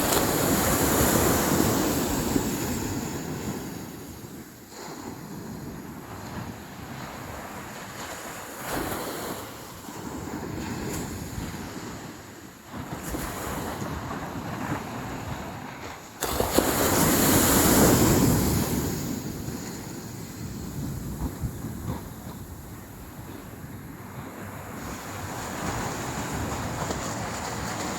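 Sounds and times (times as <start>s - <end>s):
sea waves breaking on beach: 0.0s - 27.9s.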